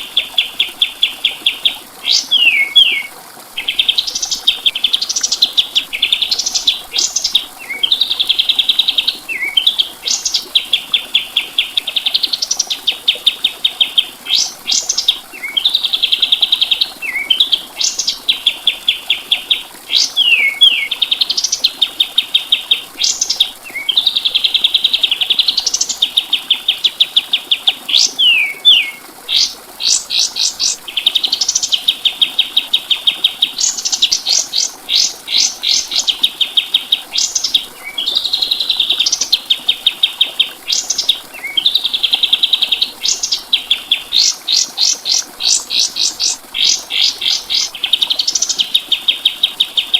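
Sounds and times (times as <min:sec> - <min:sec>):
songbird singing trills: 0:00.0 - 0:49.9.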